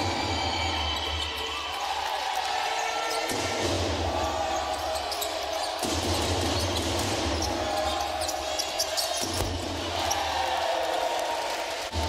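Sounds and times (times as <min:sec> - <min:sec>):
crowd noise in echoing hall: 0:00.0 - 0:12.0.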